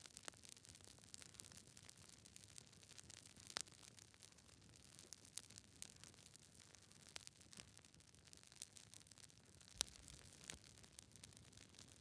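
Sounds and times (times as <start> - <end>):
fireplace fire crackling: 0.0 - 12.0.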